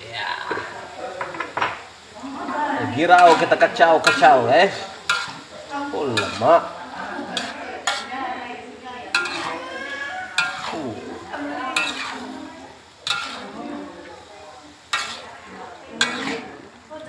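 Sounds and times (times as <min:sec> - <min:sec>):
light sizzle of frying: 0:00.0 - 0:17.0
spatula scraping metal wok: 0:02.9 - 0:16.9.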